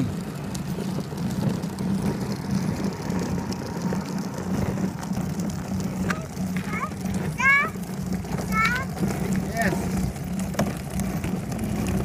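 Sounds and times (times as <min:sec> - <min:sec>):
plastic wagon wheels rumbling on concrete: 0:00.0 - 0:12.0.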